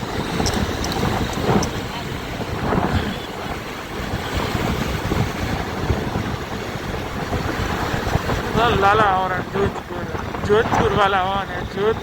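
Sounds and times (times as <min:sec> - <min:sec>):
traffic engine and road noise: 0:00.0 - 0:12.0
wind buffeting microphone: 0:00.0 - 0:12.0.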